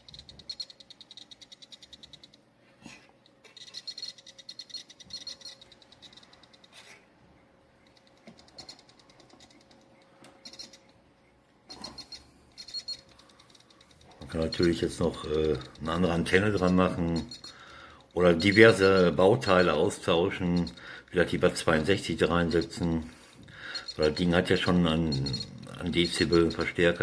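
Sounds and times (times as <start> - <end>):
buzzer chirping in rapid pulses: 0.0 - 2.5, 3.5 - 6.8, 10.4 - 11.0, 11.7 - 27.0.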